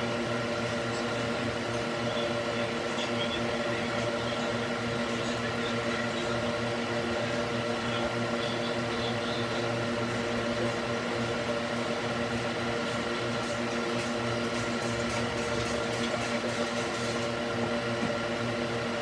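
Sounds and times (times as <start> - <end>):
electric fan whirring: 0.0 - 19.0.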